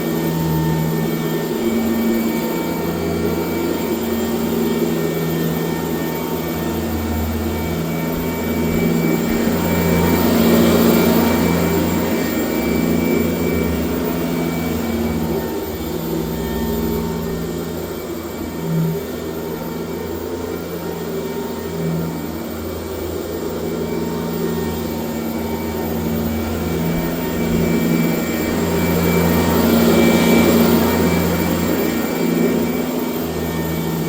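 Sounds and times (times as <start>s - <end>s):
upright vacuum cleaner running: 0.0s - 34.0s.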